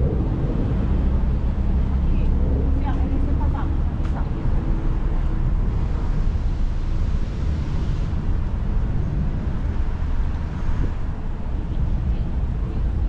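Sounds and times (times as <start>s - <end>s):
low street ambience rumble: 0.0s - 13.0s.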